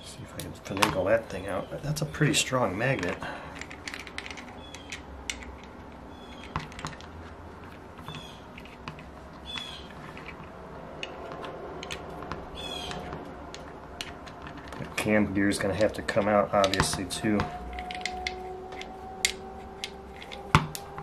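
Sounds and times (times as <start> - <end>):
small metal parts clicking: 2.9 - 21.0.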